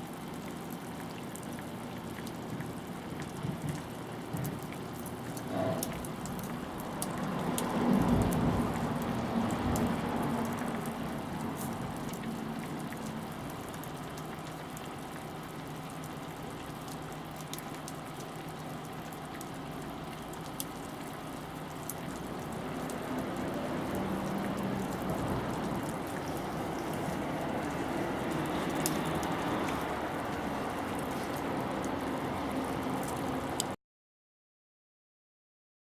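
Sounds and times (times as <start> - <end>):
wood fire crackling: 0.7 - 32.3.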